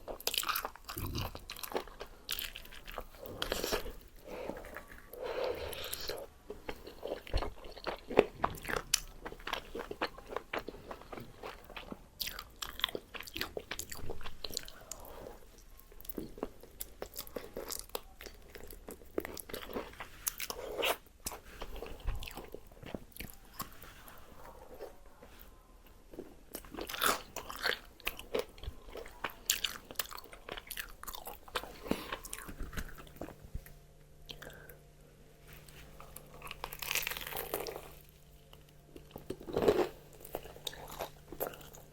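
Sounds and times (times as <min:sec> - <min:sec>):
crunchy chewing of fried chicken: 0:00.0 - 0:34.8, 0:35.4 - 0:41.9.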